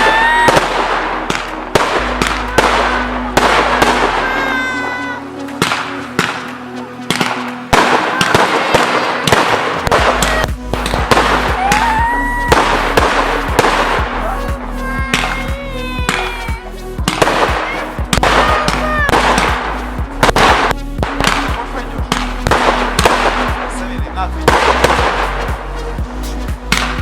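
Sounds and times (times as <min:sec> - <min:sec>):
firework cracking bursts: 0:00.0 - 0:25.7
background music: 0:00.0 - 0:27.0.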